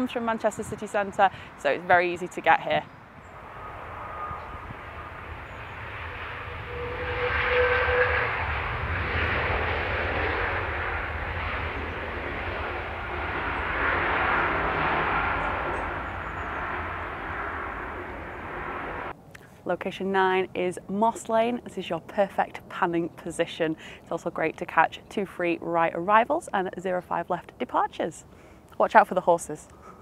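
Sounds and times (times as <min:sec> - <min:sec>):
jet engines rumbling: 0:00.0 - 0:27.8.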